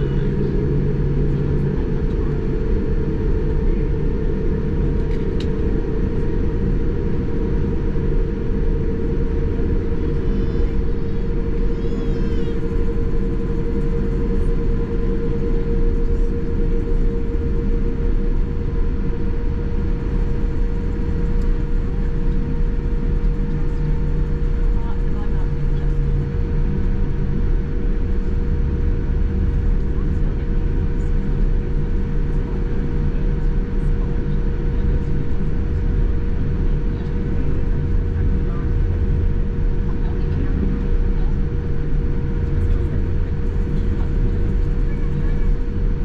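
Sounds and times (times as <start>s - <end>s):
airliner cabin rumble: 0.0s - 46.0s.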